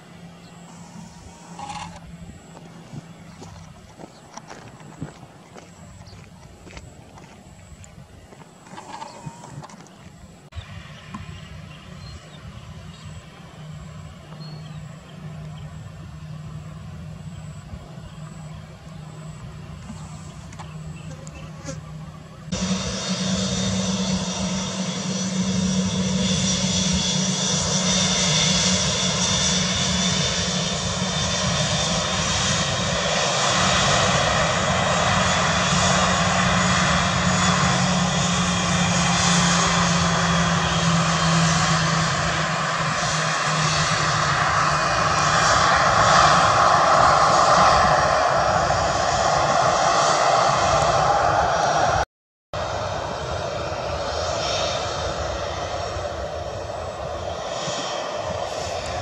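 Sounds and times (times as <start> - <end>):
jet engine rushing roar: 0.0 - 59.0
jet engine whine: 0.0 - 59.0.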